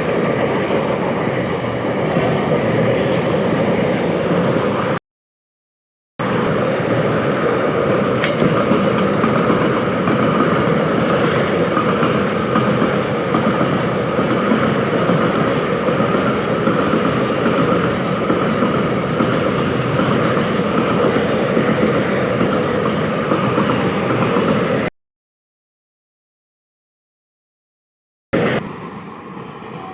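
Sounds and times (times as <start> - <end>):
train running on track: 0.0 - 5.0, 6.2 - 24.9, 28.4 - 29.9.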